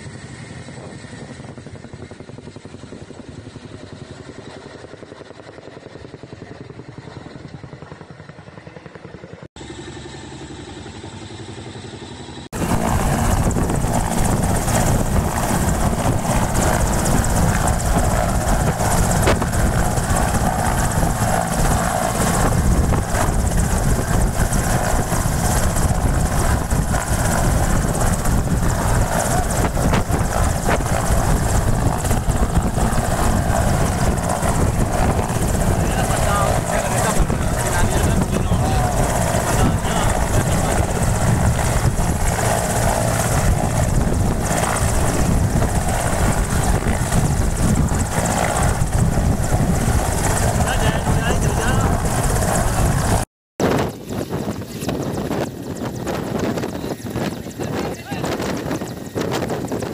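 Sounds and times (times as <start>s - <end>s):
helicopter passing overhead: 0.0s - 59.9s
helicopter roaring on the ground: 0.0s - 59.9s.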